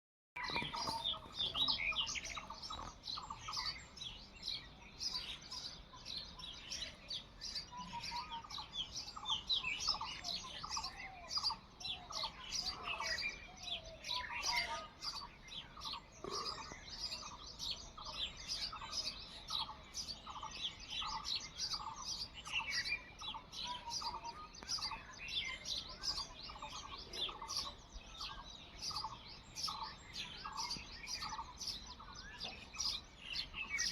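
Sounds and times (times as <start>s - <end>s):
small birds chirping: 0.4s - 33.9s.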